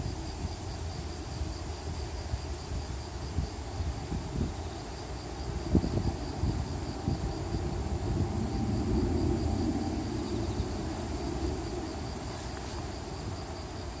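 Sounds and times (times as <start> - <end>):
insects trilling: 0.0 - 14.0
wind gusting: 0.0 - 14.0.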